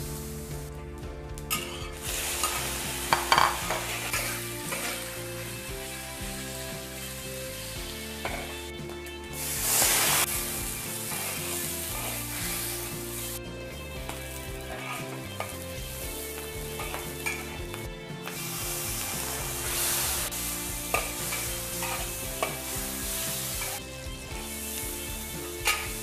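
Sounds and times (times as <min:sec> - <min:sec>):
food sizzling in a wok: 0:00.0 - 0:00.8, 0:01.5 - 0:26.0
metal spatula scraping a wok: 0:01.5 - 0:08.6, 0:09.3 - 0:13.4, 0:14.0 - 0:26.0.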